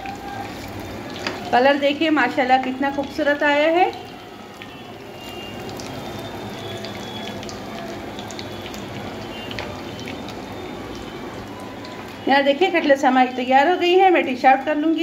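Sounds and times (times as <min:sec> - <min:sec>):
hot oil sizzling and popping: 0:00.0 - 0:15.0.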